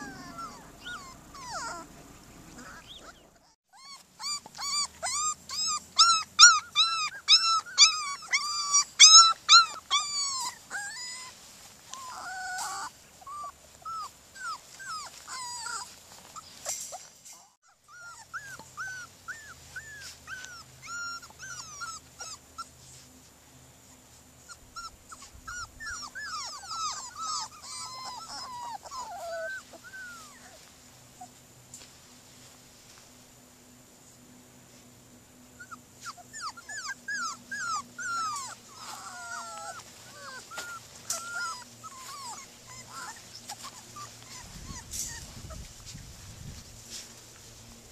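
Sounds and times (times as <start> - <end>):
puppies whining and yelping: 0.0 - 23.0, 24.4 - 31.4, 35.6 - 46.1.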